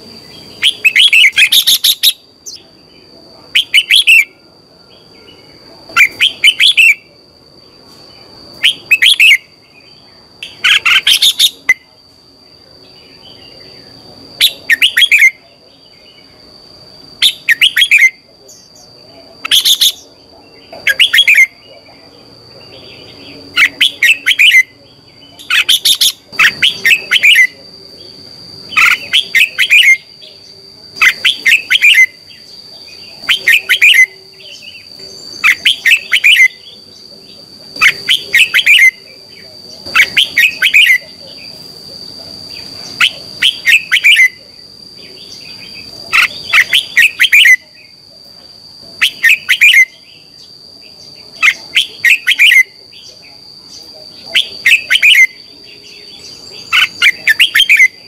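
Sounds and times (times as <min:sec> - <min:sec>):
steady high-pitched whine: 0:00.0 - 0:58.0
bird singing whistled notes: 0:00.2 - 0:07.1, 0:08.6 - 0:11.9, 0:12.9 - 0:16.4, 0:17.2 - 0:21.7, 0:22.7 - 0:27.6, 0:28.7 - 0:37.1, 0:37.8 - 0:41.5, 0:42.5 - 0:44.4, 0:45.0 - 0:48.0, 0:49.0 - 0:58.0.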